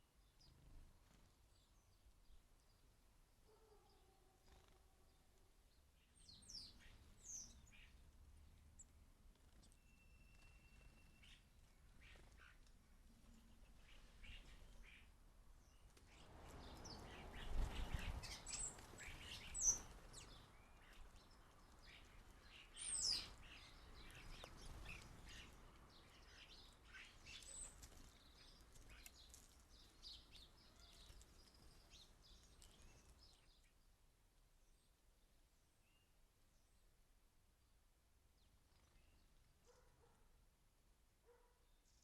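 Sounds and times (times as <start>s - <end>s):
small birds chirping: 0.0s - 40.2s.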